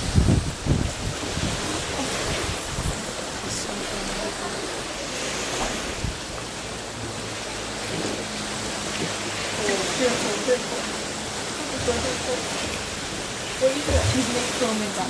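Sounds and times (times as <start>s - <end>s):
sea rushing: 0.0s - 15.0s
wind buffeting microphone: 0.0s - 15.0s.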